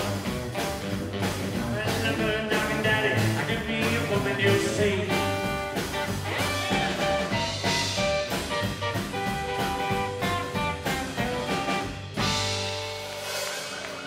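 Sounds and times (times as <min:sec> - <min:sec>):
rockabilly band playing: 0:00.0 - 0:14.0.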